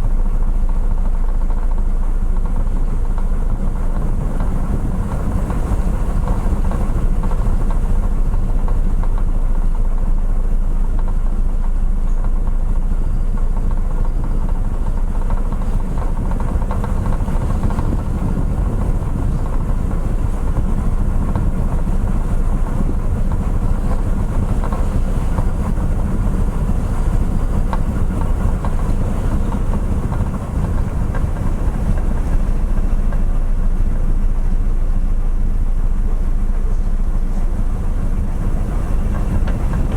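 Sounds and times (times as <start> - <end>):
faint steady hum: 0.0 - 39.9
ship engines droning: 2.0 - 39.9.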